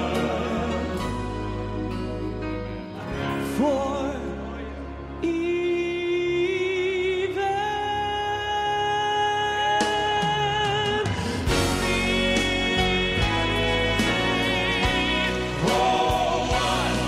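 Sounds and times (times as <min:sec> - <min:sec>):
male vocal quartet singing: 0:00.0 - 0:02.3, 0:03.3 - 0:17.0.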